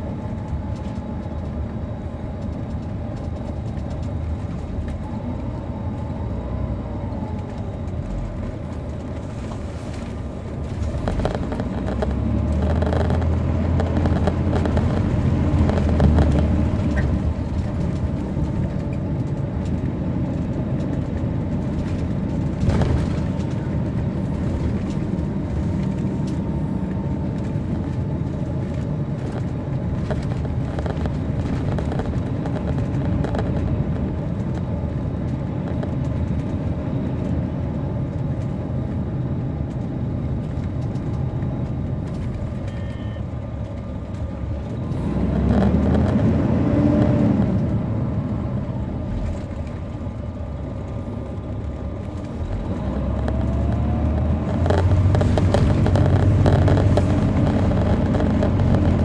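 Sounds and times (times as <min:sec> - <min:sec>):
diesel coach engine drone: 0:00.0 - 0:59.0
road and cabin noise: 0:00.0 - 0:59.0.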